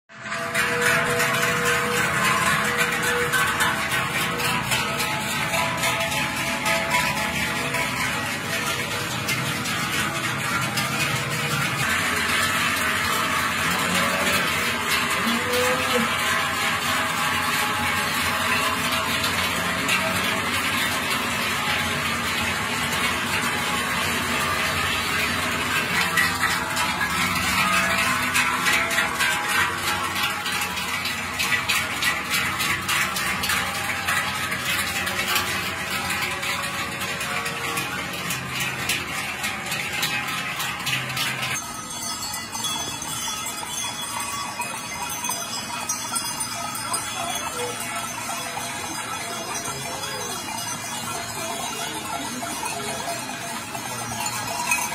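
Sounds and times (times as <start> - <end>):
cowbells clanging: 0.1 - 54.9
small bells tinkling: 0.1 - 54.9.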